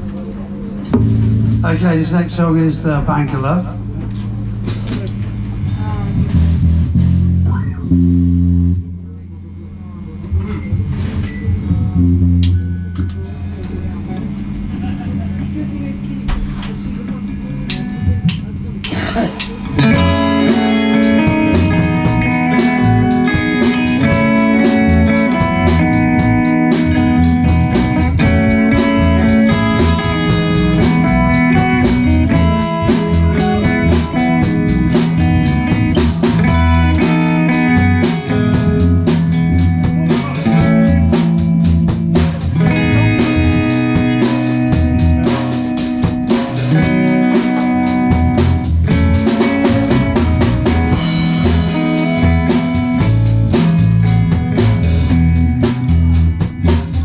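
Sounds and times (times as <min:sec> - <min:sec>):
bass guitar: 0:00.0 - 0:57.0
electric guitar: 0:00.0 - 0:57.0
drum kit steady beat: 0:00.9 - 0:13.7, 0:17.7 - 0:57.0.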